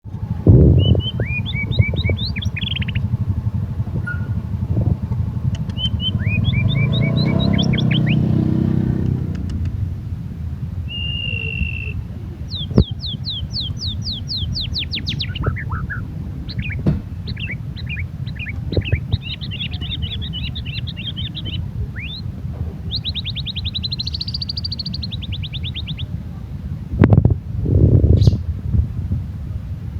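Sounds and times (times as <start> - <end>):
songbird singing: 0.0 - 26.8, 28.1 - 28.5
low rumble: 0.0 - 29.9.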